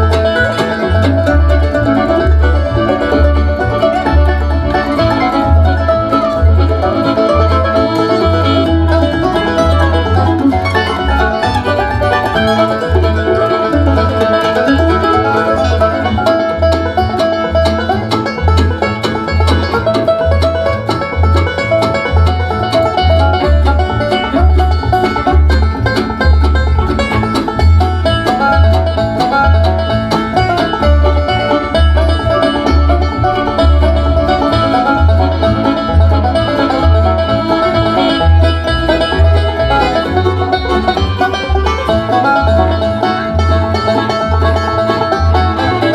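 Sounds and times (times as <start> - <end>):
steady bass beat: 0.0 - 45.8.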